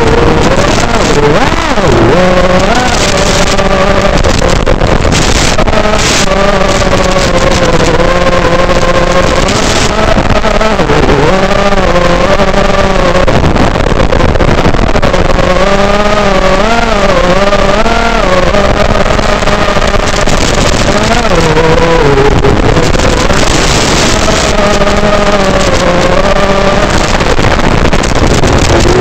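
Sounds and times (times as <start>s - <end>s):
quadcopter propellers whining: 0.0s - 29.0s.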